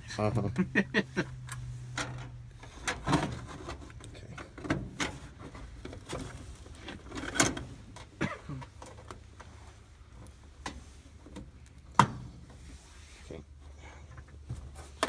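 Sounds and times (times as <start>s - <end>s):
wires rustling: 0.0s - 15.0s.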